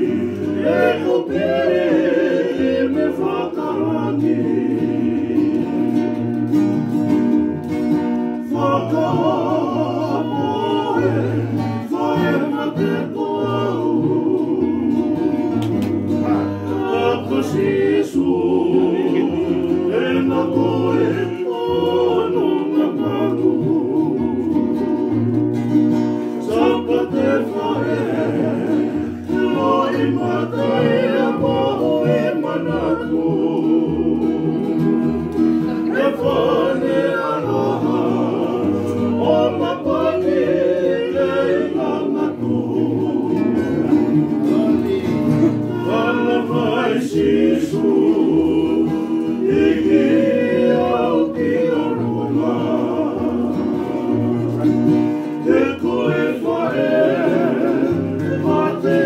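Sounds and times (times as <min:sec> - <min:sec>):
men singing together: 0:00.0 - 0:06.3, 0:08.4 - 0:25.4, 0:26.2 - 0:59.0
strummed acoustic guitars: 0:00.0 - 0:59.0
ukulele: 0:00.0 - 0:59.0.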